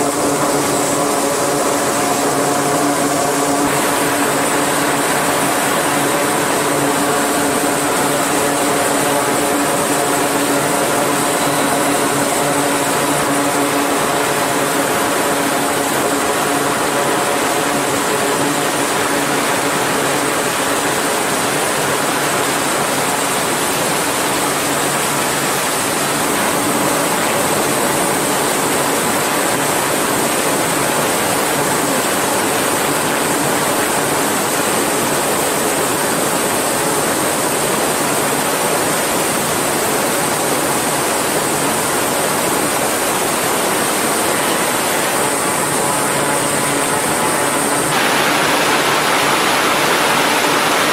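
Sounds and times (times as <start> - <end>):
turboprop engines propeller drone: 0.0 - 50.9.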